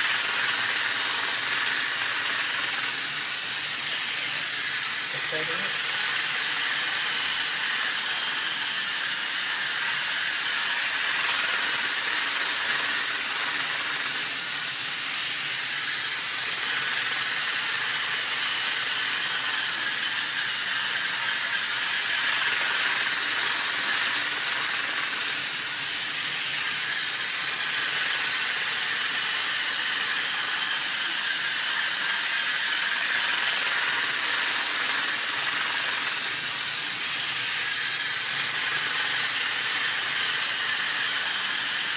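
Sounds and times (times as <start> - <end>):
toy train motor whirring: 0.0 - 41.9.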